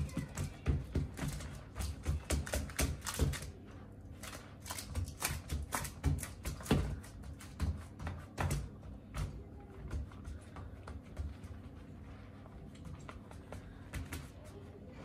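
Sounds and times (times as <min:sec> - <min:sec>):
fingertips tapping dough: 0:00.0 - 0:15.0.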